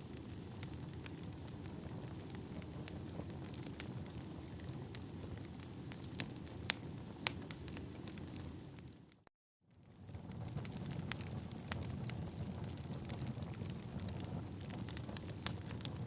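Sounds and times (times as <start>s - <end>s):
fire crackles and pops: 0.0s - 16.0s
firewood burning: 0.0s - 16.0s.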